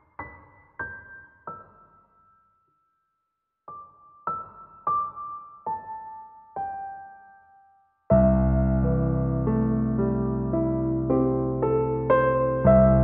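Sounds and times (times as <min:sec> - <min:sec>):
slow solo piano: 0:00.0 - 0:02.4, 0:03.7 - 0:13.0.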